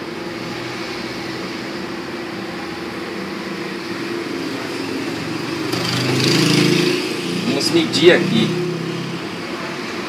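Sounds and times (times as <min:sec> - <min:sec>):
fan-like hum: 0:00.0 - 0:10.0.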